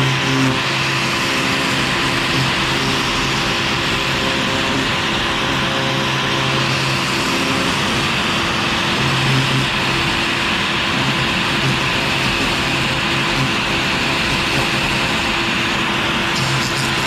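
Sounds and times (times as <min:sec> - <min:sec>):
router spindle cutting plastic: 0:00.0 - 0:17.0.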